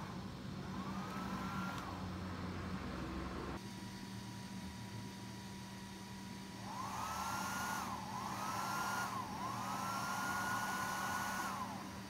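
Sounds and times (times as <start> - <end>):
electric fan motor whining: 0.0 - 12.0.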